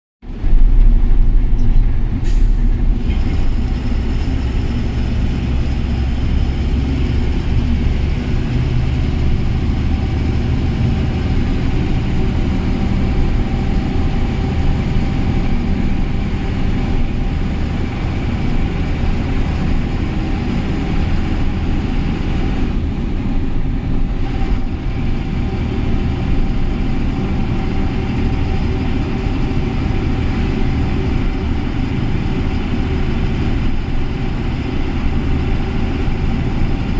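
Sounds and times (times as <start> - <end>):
road noise: 0.2 - 36.9
truck diesel engine rumble: 0.2 - 36.9.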